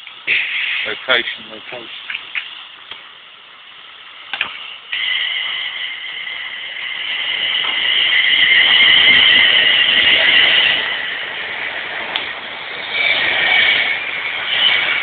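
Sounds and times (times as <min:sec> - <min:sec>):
electric train rumble: 0:00.0 - 0:15.0
high two-tone whine: 0:00.0 - 0:15.0.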